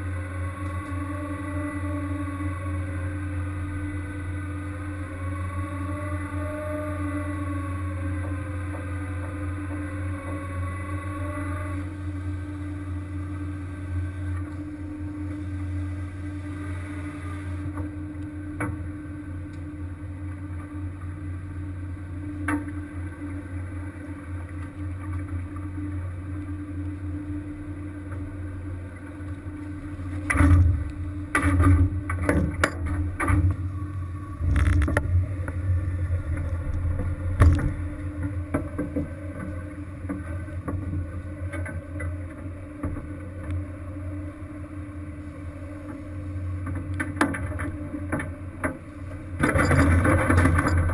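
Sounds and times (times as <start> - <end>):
boat engine drone: 0.0 - 50.9.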